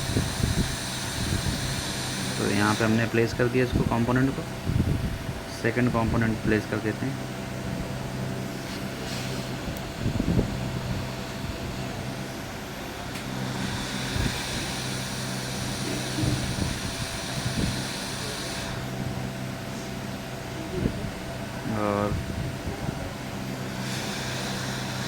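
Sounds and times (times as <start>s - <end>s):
hot-air station blowing air: 0.0s - 25.0s
low machine hum: 0.0s - 25.0s.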